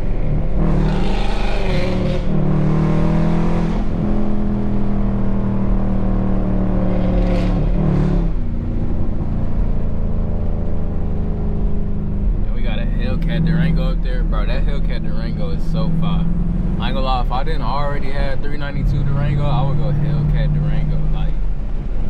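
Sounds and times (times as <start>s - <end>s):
car engines droning: 0.0s - 22.0s.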